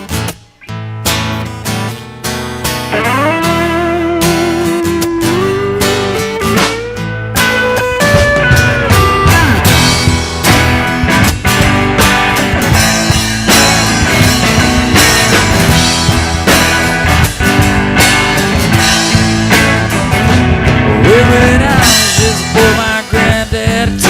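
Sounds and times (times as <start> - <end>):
bending guitar notes: 0.0 - 24.0
drum kit beat: 0.0 - 24.0
electric guitar: 0.0 - 24.0.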